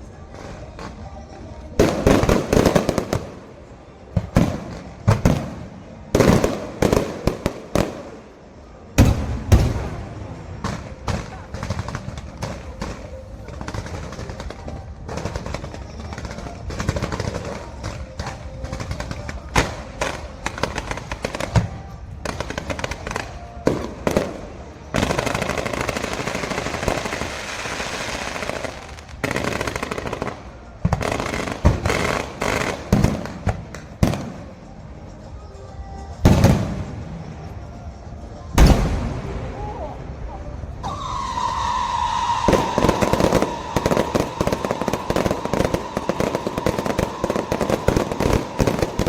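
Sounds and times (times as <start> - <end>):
fireworks crackling: 0.0 - 49.0
fireworks bangs and pops: 0.2 - 8.4, 9.0 - 34.7, 42.4 - 49.0.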